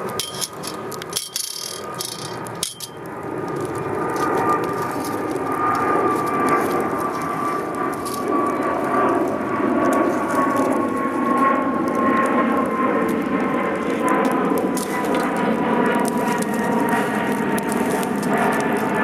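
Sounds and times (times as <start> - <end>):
campfire crackling: 0.0 - 19.0
droning hum: 0.0 - 19.0.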